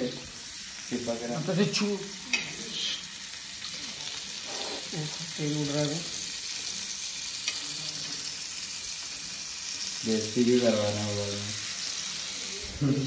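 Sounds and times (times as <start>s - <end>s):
cheese sizzling in pan: 0.0s - 13.0s.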